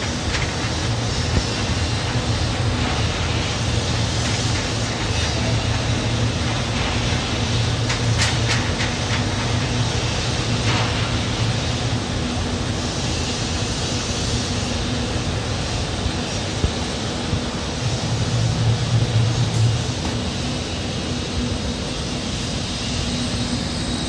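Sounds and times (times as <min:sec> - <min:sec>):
loud mechanical furnace noise: 0:00.0 - 0:24.0.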